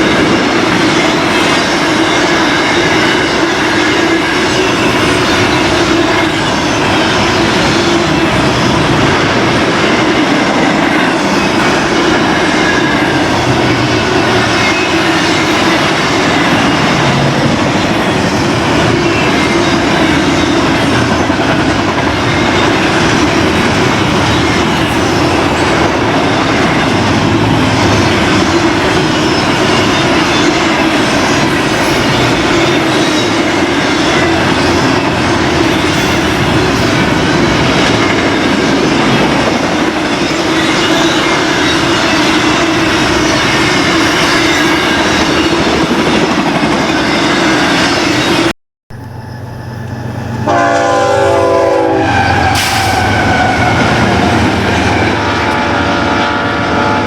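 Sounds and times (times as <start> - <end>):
freight train cars rolling past: 0.0 - 57.0.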